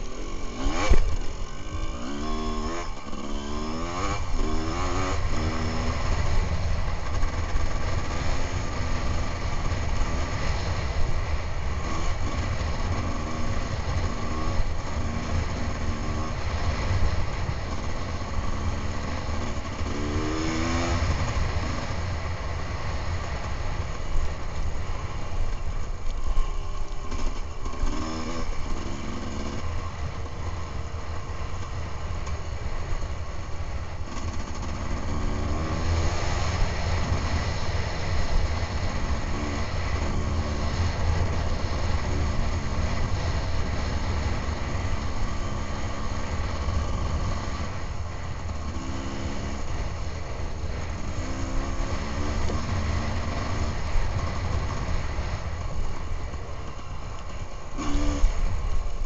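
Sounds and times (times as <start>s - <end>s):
dirt bike engine revving: 0.0s - 23.1s, 27.1s - 30.1s, 34.0s - 55.5s, 57.7s - 58.6s.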